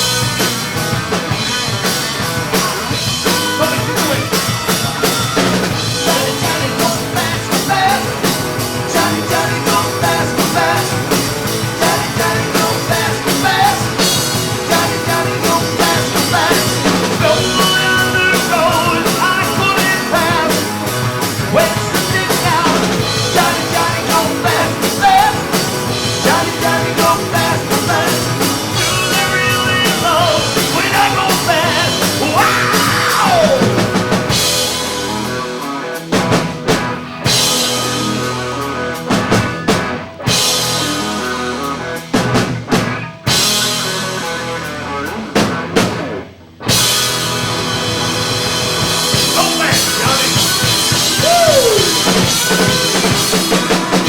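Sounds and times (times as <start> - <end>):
drum kit beat: 0.0 - 54.0
electric guitars: 0.0 - 54.0.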